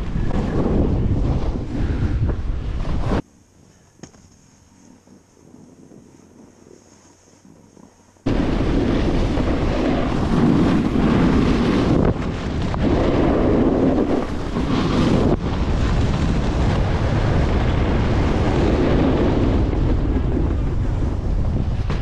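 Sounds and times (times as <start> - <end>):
wind buffeting microphone: 0.0 - 4.1, 4.8 - 22.0
snowboard sliding over snow: 0.0 - 22.0.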